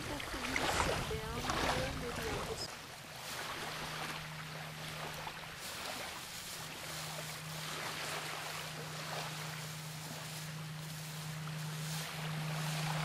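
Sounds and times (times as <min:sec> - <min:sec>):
steady low hum: 0:00.0 - 0:13.0
surf hissing: 0:00.0 - 0:13.0
wind: 0:00.0 - 0:13.0.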